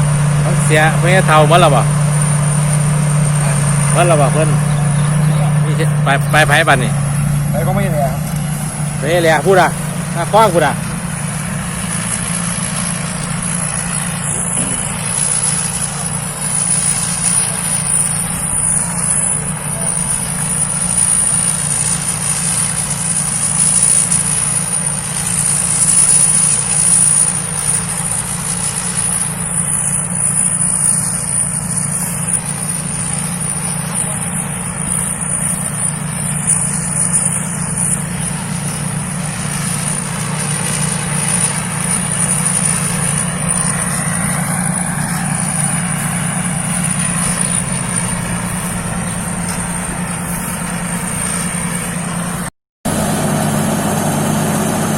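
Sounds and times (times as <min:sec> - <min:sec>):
combine harvester engine drone: 0:00.0 - 0:54.9
high whine: 0:00.0 - 0:54.9.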